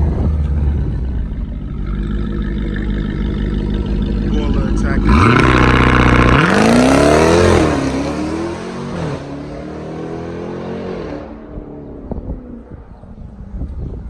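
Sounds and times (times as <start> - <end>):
engine accelerating hard: 0.0 - 12.7.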